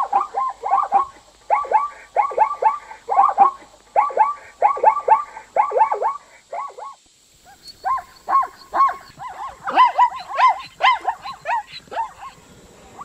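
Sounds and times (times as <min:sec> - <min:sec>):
zebra barking yips: 0:00.0 - 0:13.0.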